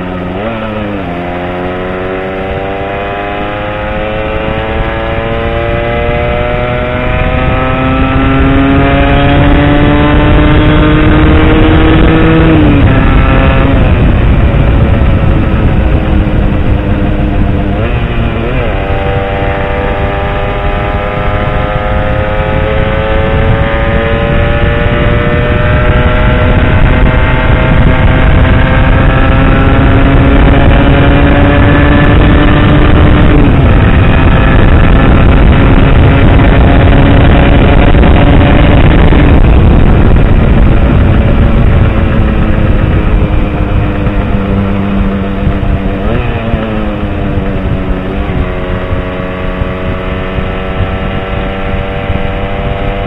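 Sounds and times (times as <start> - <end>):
low rushing noise: 0.0 - 53.0.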